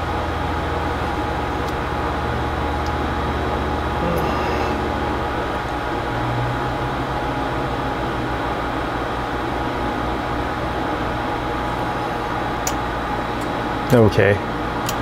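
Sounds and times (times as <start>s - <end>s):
electronic equipment hum and fan: 0.0s - 15.0s.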